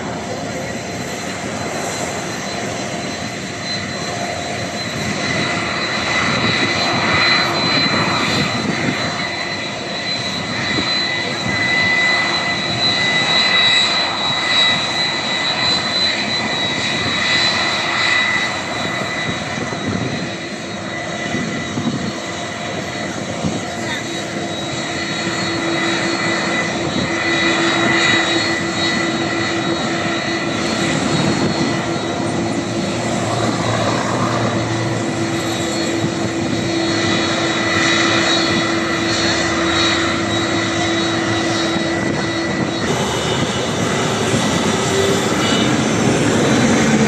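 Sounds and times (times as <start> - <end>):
jet engines roaring and whining: 0.0 - 47.0.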